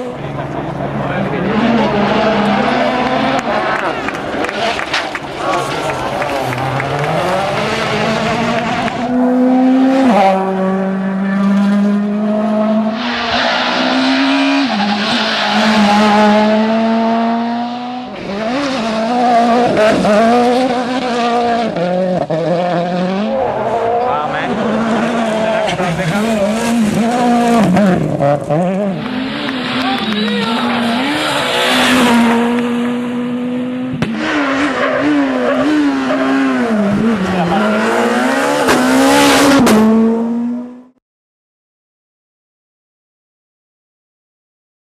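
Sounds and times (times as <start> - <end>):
engine running at high revs: 0.0 - 41.0.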